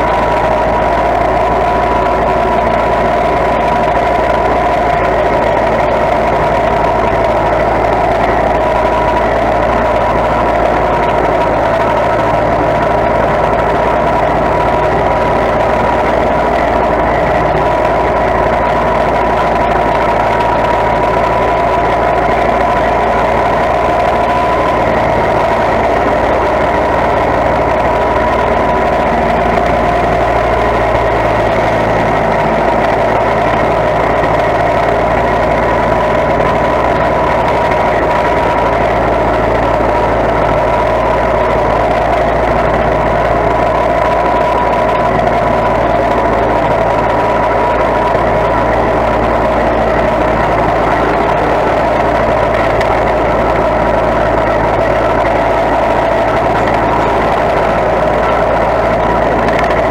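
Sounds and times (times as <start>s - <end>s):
riding lawn mower engine running: 0.0s - 59.9s.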